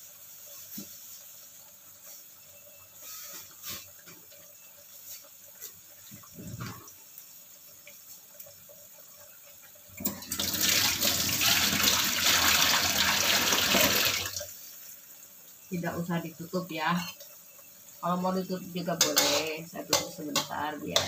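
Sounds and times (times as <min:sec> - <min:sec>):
water running from kitchen tap: 0:00.0 - 0:21.0.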